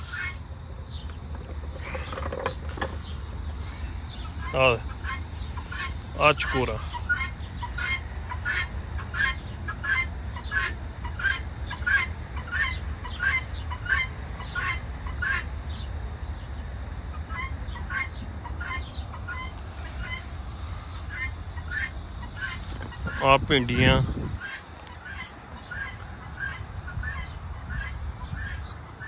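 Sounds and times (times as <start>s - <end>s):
low rumble: 0.0s - 24.5s
partridges clucking calls: 0.0s - 29.0s.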